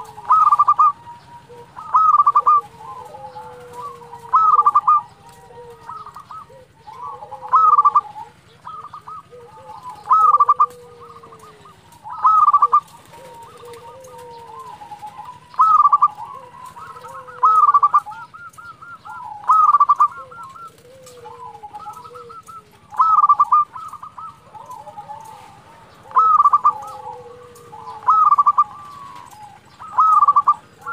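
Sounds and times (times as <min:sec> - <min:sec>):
dove cooing: 0:00.0 - 0:30.9.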